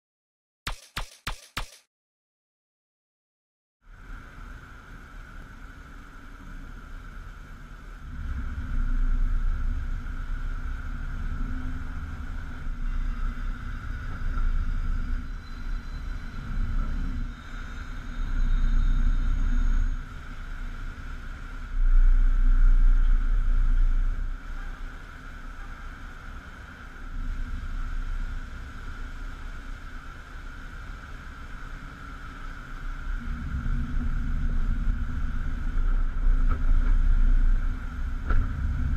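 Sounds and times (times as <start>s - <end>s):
steady high-pitched hum: 3.9s - 38.9s.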